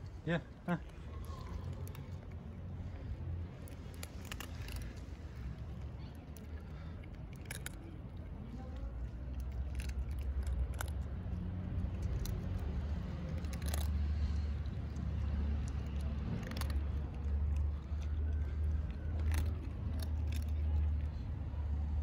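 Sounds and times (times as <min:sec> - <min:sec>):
cats crunching dry kibble: 0:00.8 - 0:22.0.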